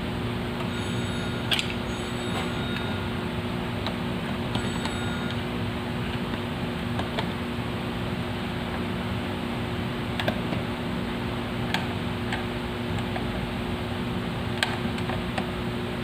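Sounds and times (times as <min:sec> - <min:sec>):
two-tone mechanical hum: 0:00.0 - 0:16.0.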